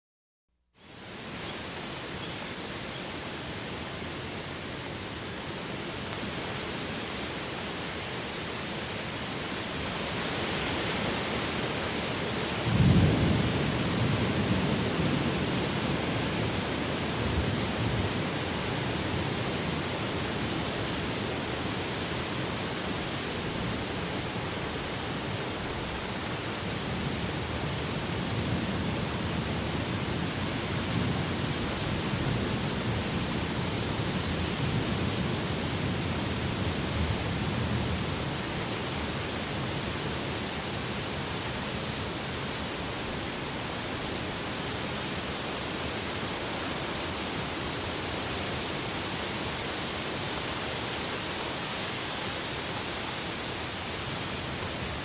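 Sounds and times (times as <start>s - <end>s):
rain falling in wind: 0.7s - 55.0s.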